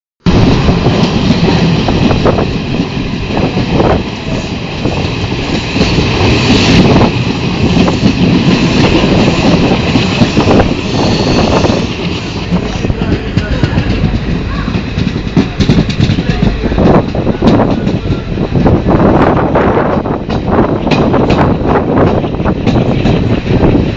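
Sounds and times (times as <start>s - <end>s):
train wheels on rails: 0.2s - 23.9s.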